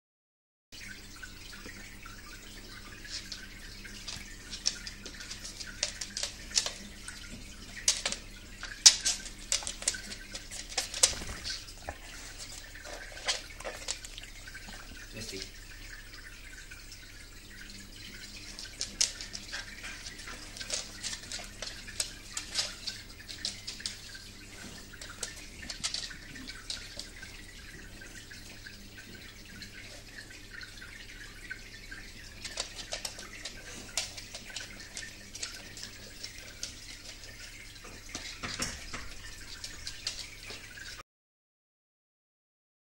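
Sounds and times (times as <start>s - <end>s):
water dripping and trickling: 0.8s - 41.0s.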